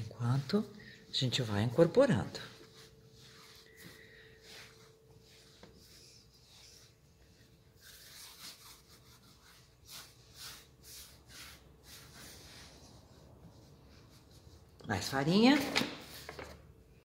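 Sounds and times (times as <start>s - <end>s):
hands kneading bread dough: 0.0s - 14.8s.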